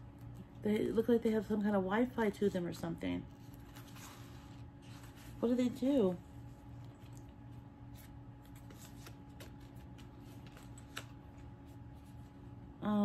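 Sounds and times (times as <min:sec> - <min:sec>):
low steady hum: 0:00.0 - 0:13.0
gloves and paper tag rustling: 0:00.1 - 0:12.6.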